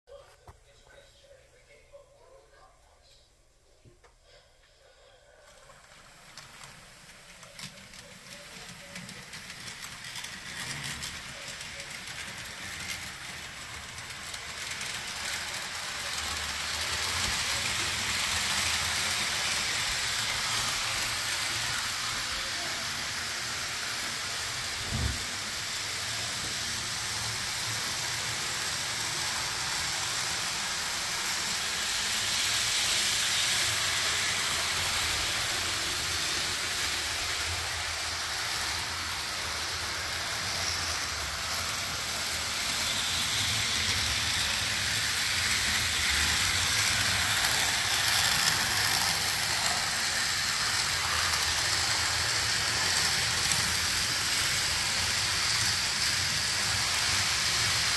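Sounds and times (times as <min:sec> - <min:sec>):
model train rattling: 0:05.5 - 0:57.9.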